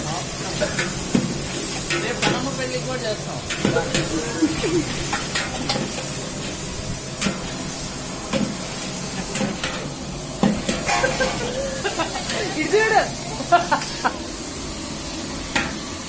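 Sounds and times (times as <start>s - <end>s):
utensils clanking on metal pot: 0.0s - 14.2s
burner hissing: 0.0s - 16.0s.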